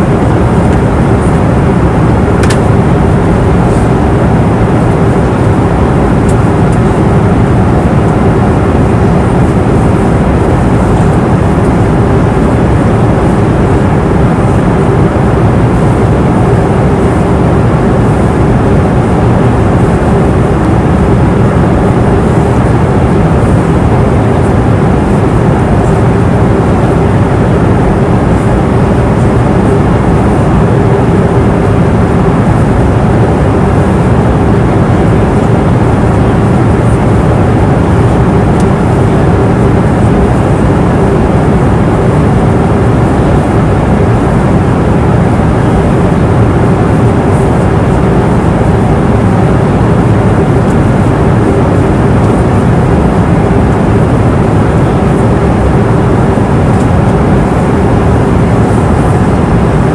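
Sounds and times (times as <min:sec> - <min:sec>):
airplane cabin engine noise: 0:00.0 - 0:59.9.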